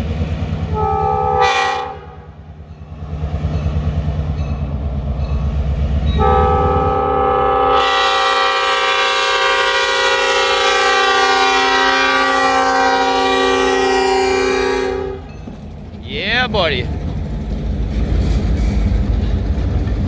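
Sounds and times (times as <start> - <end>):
passing train rush: 0.0 - 20.0.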